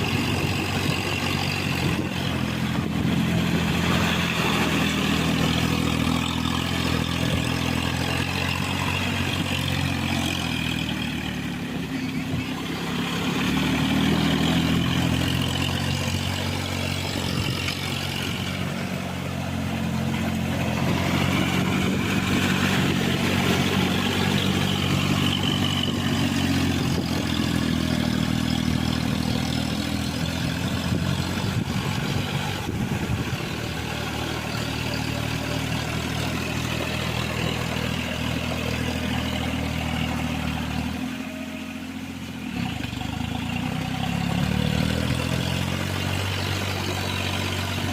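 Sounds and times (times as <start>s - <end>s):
tractor engine running under load: 0.0s - 47.9s.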